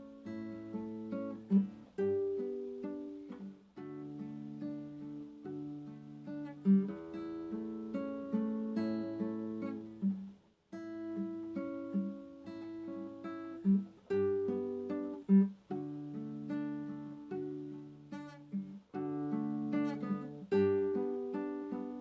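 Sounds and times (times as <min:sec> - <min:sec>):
fingerpicked acoustic guitar: 0:00.0 - 0:22.0.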